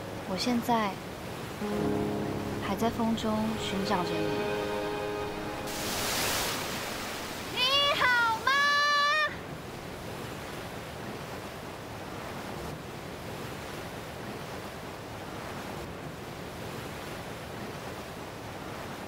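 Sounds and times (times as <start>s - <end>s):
surf washing on rocky shore: 0.0s - 19.0s.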